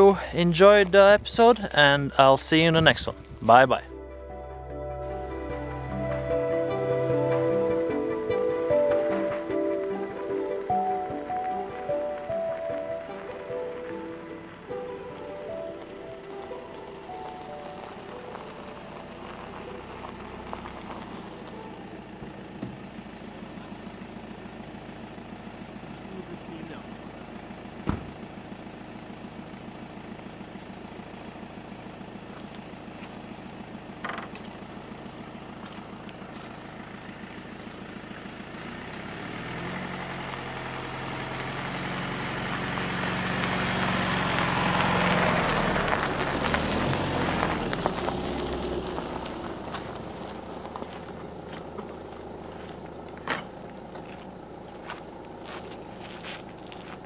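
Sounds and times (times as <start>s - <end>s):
tyres on gravel: 0.0s - 57.0s
van engine: 0.0s - 57.0s.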